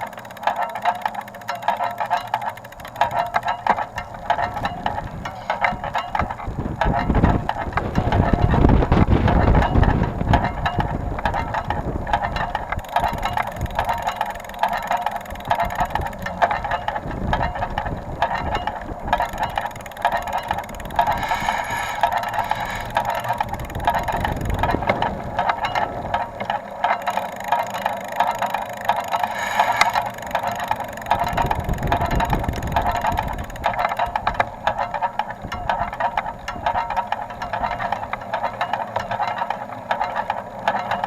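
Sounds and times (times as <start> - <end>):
bicycle wheel whirring and clicking: 0.0 - 41.0.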